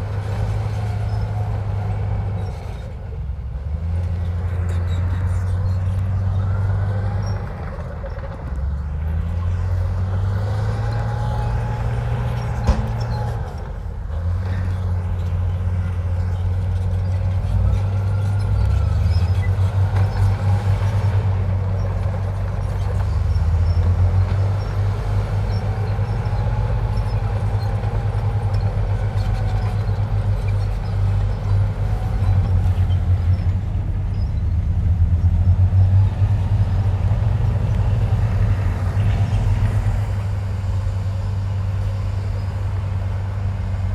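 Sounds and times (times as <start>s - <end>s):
bulldozer diesel engine droning: 0.0s - 43.9s.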